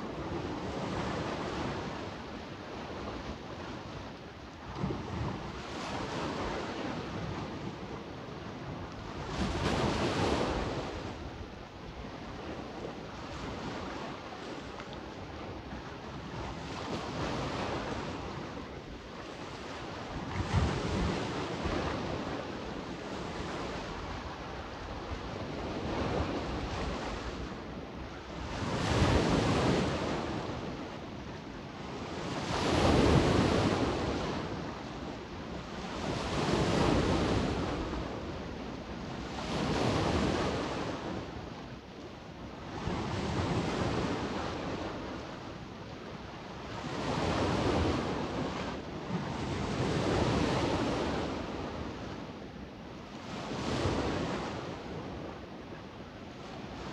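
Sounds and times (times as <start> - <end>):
small waves washing on shore: 0.0 - 56.9
wind on microphone: 0.0 - 56.9.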